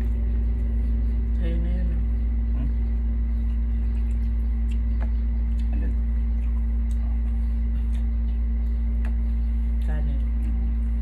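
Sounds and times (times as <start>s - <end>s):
people eating with hands: 0.0s - 11.0s
steady low hum: 0.0s - 11.0s.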